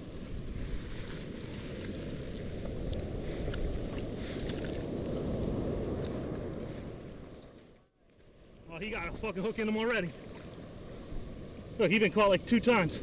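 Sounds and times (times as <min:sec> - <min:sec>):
surf washing up beach: 0:00.0 - 0:07.3, 0:08.3 - 0:13.0.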